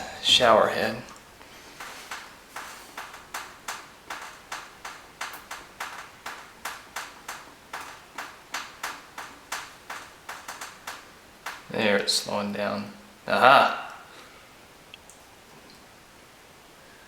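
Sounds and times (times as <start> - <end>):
water dripping from shower head: 0.0 - 16.0.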